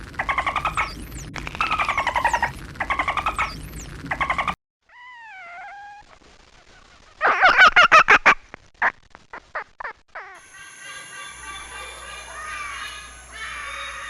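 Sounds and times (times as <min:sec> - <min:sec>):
animal calls: 0:00.2 - 0:08.4, 0:09.8 - 0:14.0.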